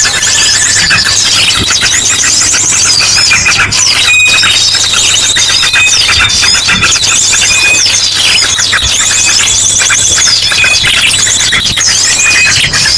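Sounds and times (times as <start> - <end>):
drongo calls: 0.0 - 12.9
small birds chirping: 0.0 - 12.9
steady high tone: 0.0 - 12.9.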